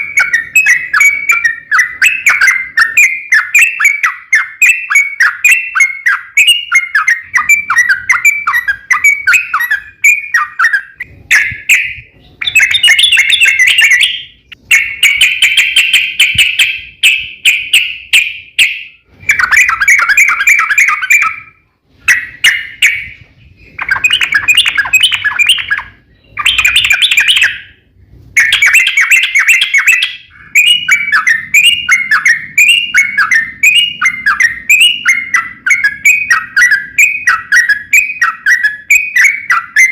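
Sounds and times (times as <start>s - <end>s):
bulbul chirping: 0.0s - 39.9s.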